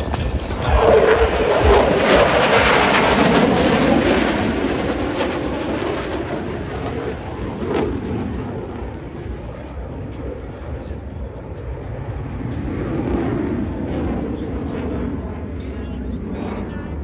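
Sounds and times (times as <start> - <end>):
jet engines roaring overhead: 0.0 - 17.0.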